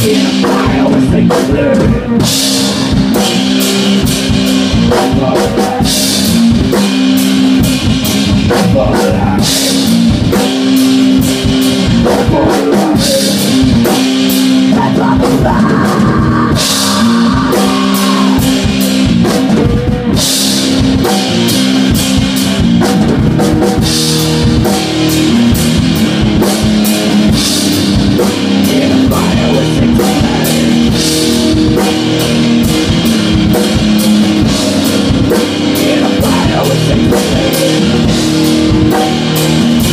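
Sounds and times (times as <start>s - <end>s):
drum kit: 0.0s - 39.9s
electric guitar chords: 0.0s - 39.9s.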